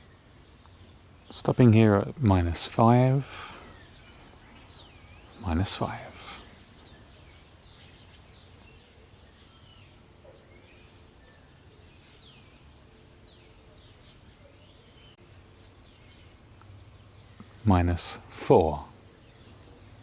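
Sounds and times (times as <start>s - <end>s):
faint birds chirping: 0.0s - 20.0s
low background hiss: 0.0s - 20.0s.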